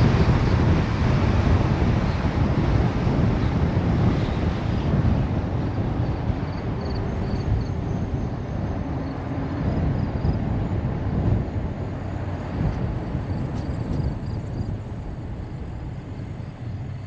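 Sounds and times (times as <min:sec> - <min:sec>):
road and wind rumble: 0:00.0 - 0:17.0.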